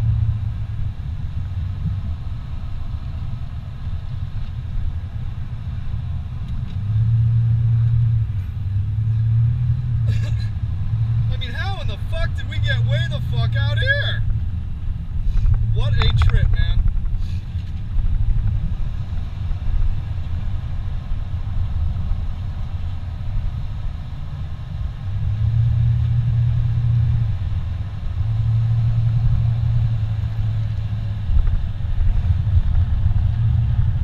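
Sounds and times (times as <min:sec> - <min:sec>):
engine and tyre rumble: 0:00.0 - 0:34.0
low hum: 0:00.0 - 0:34.0.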